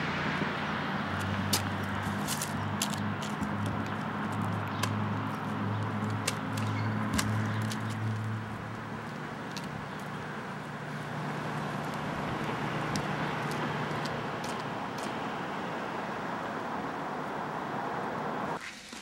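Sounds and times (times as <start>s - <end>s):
cars passing: 0.0s - 18.6s.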